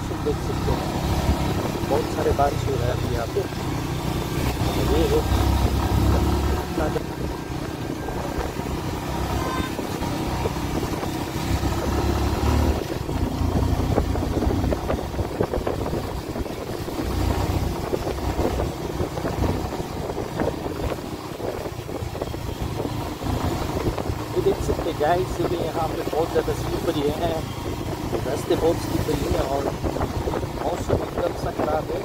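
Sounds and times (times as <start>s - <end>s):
motorcycle engine running: 0.0s - 32.0s
wind buffeting on microphone: 0.2s - 32.0s.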